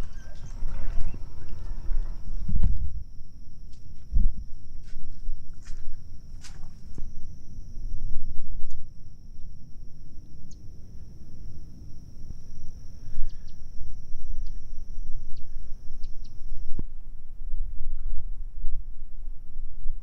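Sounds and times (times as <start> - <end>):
high-pitched insect drone: 0.0 - 16.9
wind rumble on microphone: 0.0 - 20.0.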